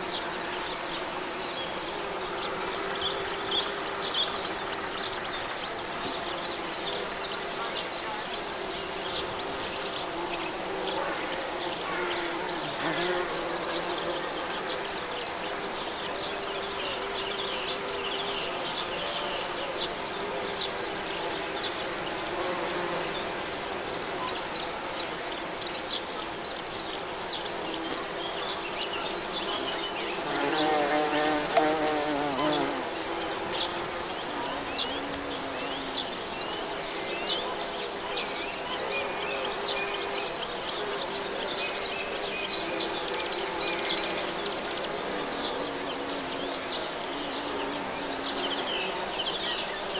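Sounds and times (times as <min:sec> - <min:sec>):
bumblebees buzzing: 0:00.0 - 0:49.9.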